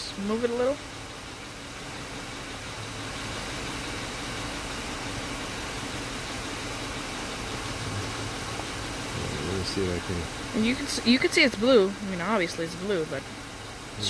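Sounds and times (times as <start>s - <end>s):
car engine idling: 0.0s - 14.0s
constant hiss: 0.0s - 14.0s.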